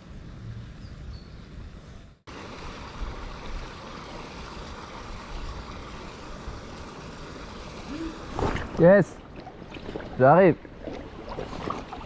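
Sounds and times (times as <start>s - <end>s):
water noise: 2.3s - 12.0s.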